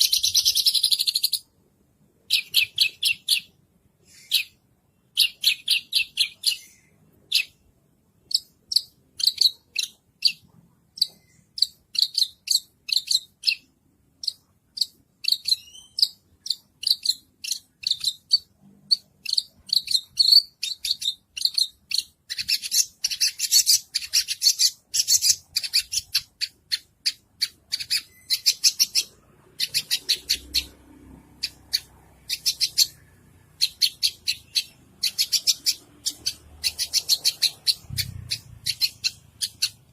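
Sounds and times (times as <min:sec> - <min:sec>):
bird singing chips and trills: 0:00.0 - 0:01.5, 0:02.3 - 0:07.6, 0:08.2 - 0:30.8, 0:31.4 - 0:39.9.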